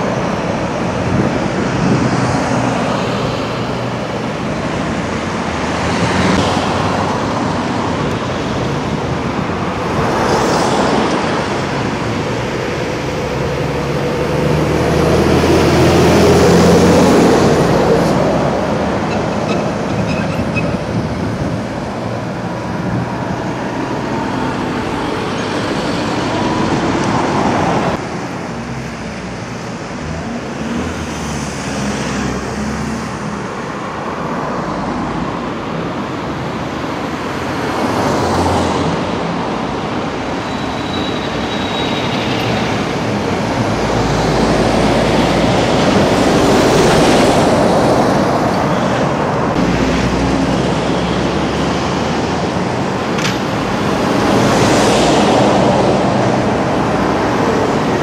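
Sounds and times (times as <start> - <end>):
lorries passing: 0.0 - 58.0
traffic noise: 0.0 - 58.0
tyres rumbling on road: 0.0 - 58.0.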